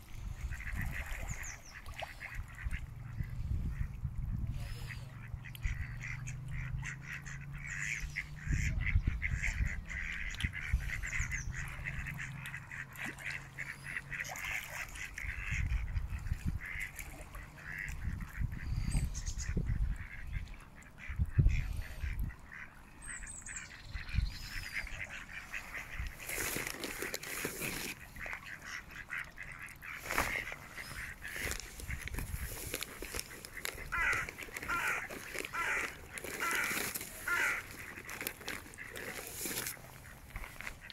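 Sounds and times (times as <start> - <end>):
ducks quacking: 0.2 - 40.9.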